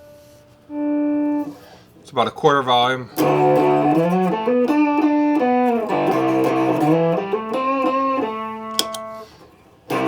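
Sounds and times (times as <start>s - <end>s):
electric guitar lick: 0.0s - 1.9s, 3.1s - 10.0s.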